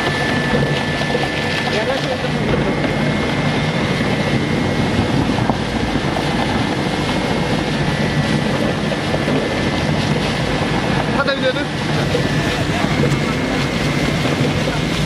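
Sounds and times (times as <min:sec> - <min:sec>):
industrial shredder grinding: 0:00.0 - 0:15.0.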